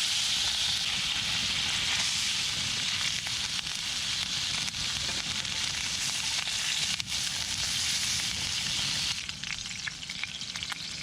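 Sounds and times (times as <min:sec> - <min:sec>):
meat sizzling in a hot pan: 0:00.0 - 0:11.0.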